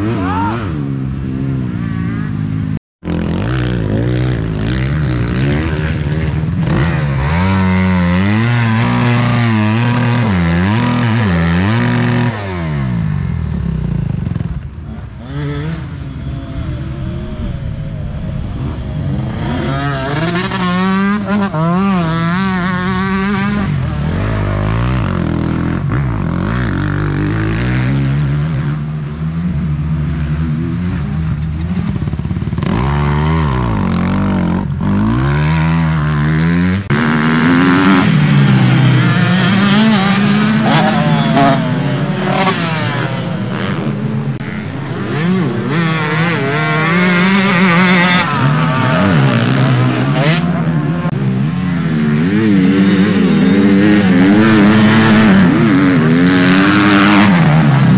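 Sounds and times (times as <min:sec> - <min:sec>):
motocross bikes revving: 0:00.0 - 0:57.9.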